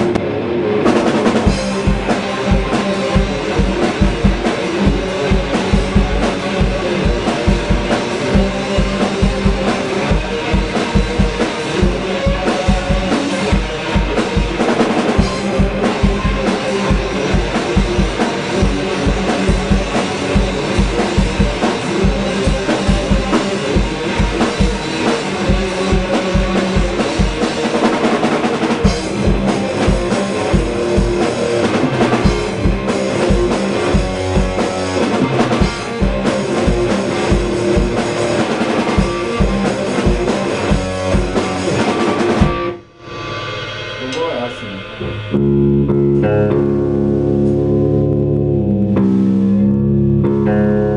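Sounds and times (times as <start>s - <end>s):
electric guitar: 0.0s - 50.9s
cymbals: 0.9s - 47.7s
bass drum: 1.2s - 27.5s, 28.7s - 50.9s.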